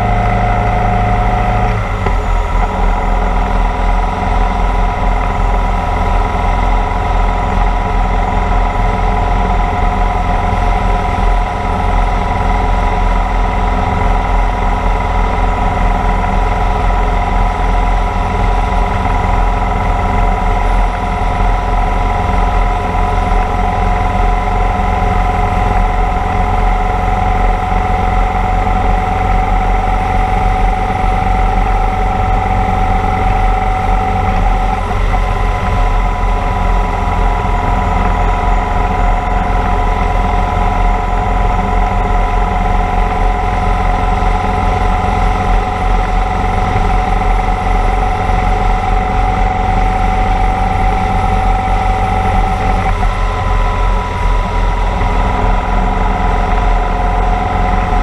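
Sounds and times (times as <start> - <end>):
motorcycle engine running: 0.0 - 58.0
wind rumbling on microphone: 0.0 - 58.0.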